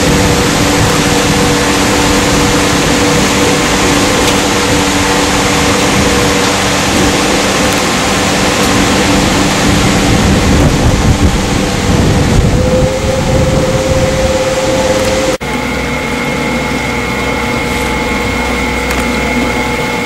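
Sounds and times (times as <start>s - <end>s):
boat motor humming: 0.0s - 20.0s
rushing water: 0.0s - 20.0s
wind: 0.0s - 20.0s.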